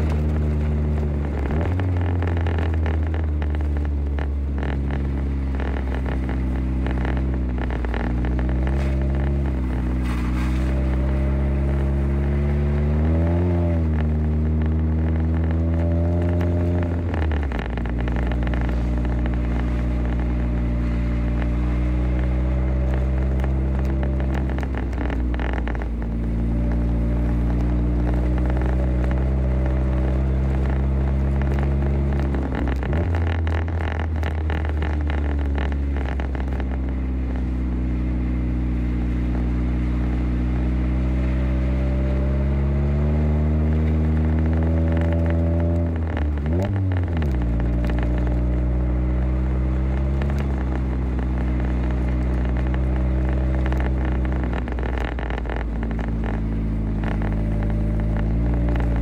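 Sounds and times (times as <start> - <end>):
car engine running in cabin: 0.0 - 59.0.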